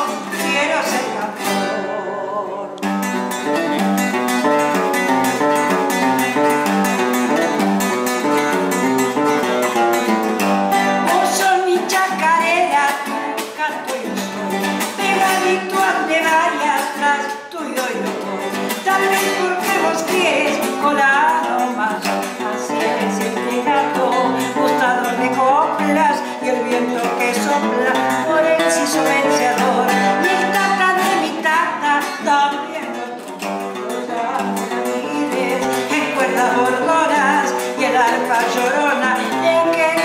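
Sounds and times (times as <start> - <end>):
acoustic guitar strumming: 0.0 - 40.0
woman singing: 0.0 - 40.0.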